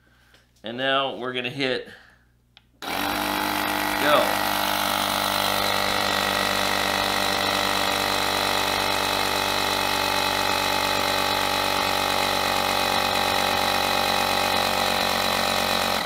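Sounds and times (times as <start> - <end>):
tire inflator compressor running: 2.8 - 16.0.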